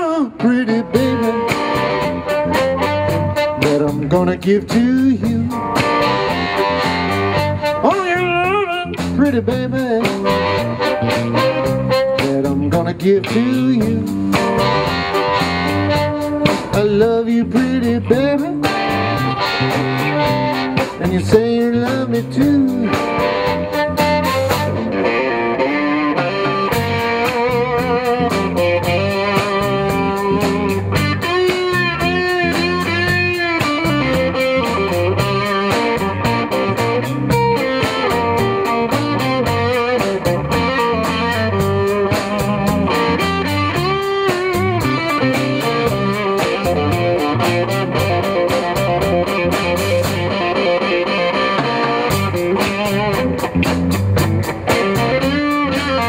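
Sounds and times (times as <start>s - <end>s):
steady drum beat: 0.0s - 25.2s, 26.2s - 56.0s
bass guitar line: 0.0s - 56.0s
electric guitar lead: 0.0s - 56.0s.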